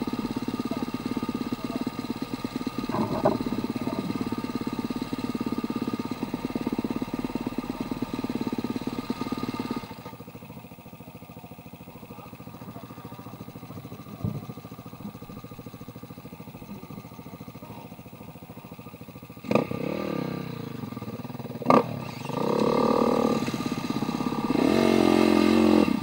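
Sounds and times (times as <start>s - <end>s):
dirt bike engines idling: 0.0s - 26.0s.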